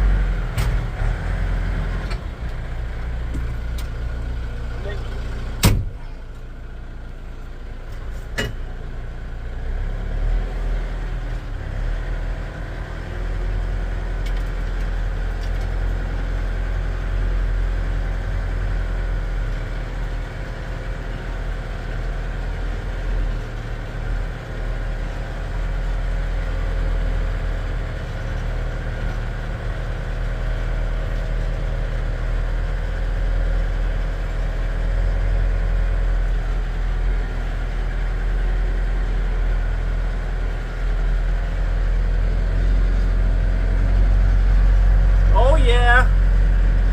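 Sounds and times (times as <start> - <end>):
engine rumbling steadily: 0.0 - 46.9.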